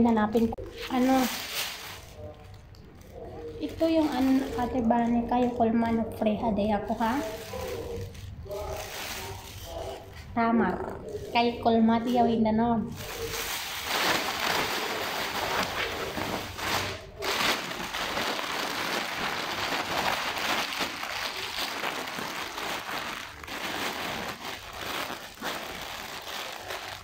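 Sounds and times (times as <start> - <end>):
plastic bags rustling: 0.4 - 10.3, 11.0 - 27.0.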